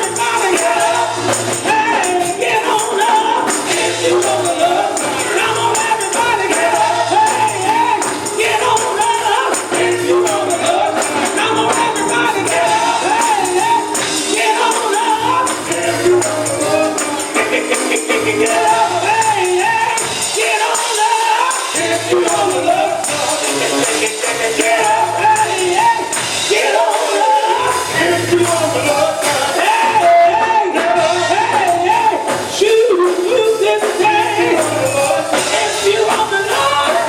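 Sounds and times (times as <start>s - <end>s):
choir singing gospel song: 0.0s - 37.0s
tambourine shaking: 0.0s - 37.0s.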